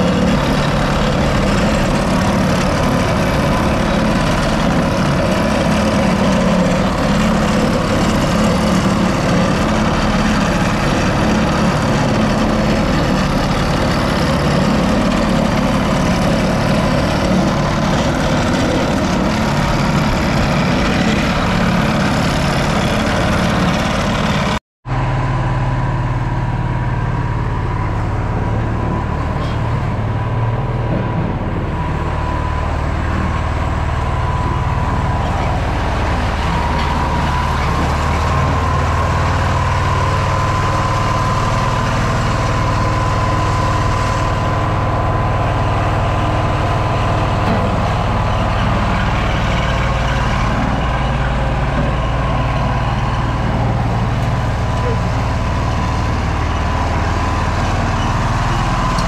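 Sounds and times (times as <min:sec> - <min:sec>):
roller compactor engine running: 0:00.0 - 0:59.0.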